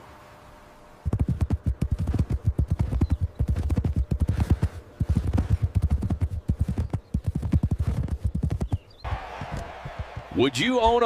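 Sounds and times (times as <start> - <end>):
fast horse hoofbeats: 1.1 - 11.0.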